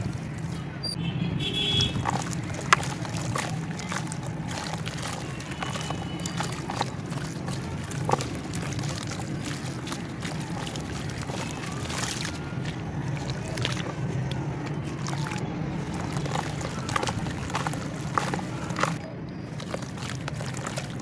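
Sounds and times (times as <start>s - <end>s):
dry clumps crackling: 0.0s - 21.0s
wet clay squelching: 0.0s - 21.0s.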